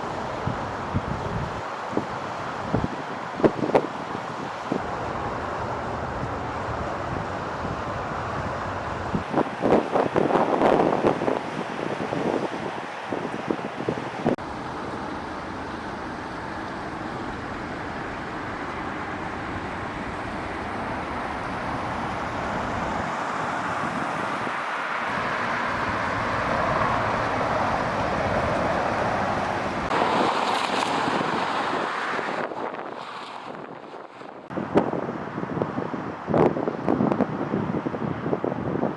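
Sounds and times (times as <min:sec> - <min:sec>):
river rushing: 0:00.0 - 0:38.7.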